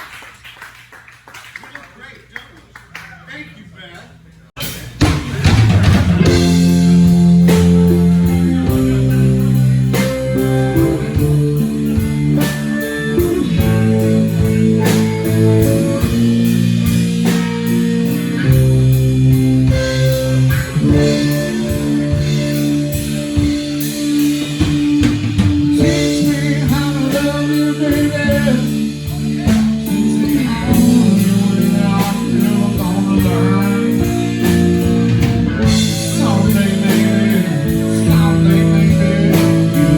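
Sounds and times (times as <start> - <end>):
blues-rock band playing: 4.6 - 39.9.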